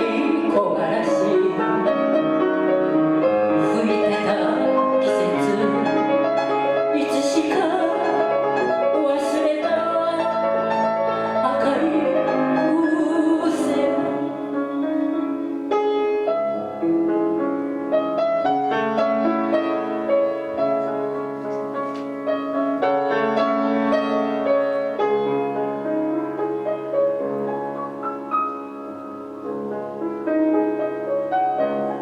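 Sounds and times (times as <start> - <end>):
piano playing: 0.0 - 32.0.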